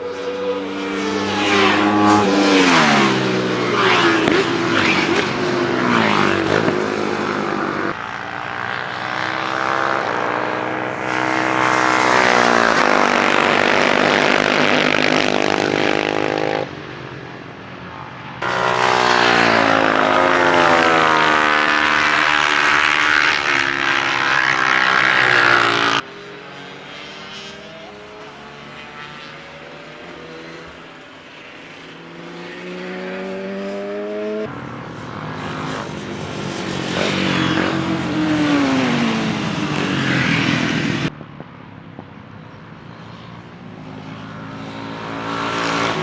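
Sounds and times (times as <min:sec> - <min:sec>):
racing motorcycle engines passing: 0:00.0 - 0:46.0.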